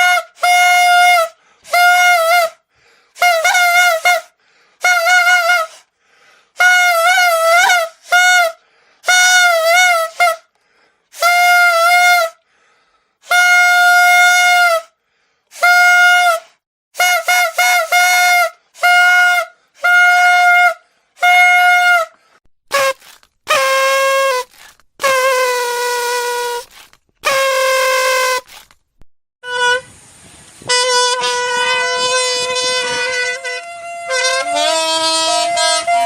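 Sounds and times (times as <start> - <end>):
toy trumpet blasts: 0.0 - 5.9, 6.5 - 12.4, 13.2 - 28.8, 29.4 - 30.0, 30.6 - 36.0.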